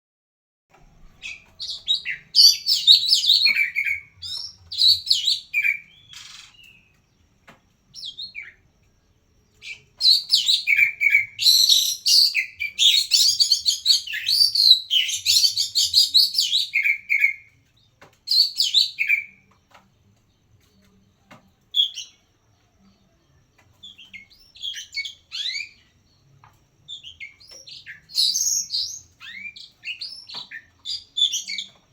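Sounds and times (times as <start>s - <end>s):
bird singing rapid phrases: 0.8s - 31.9s.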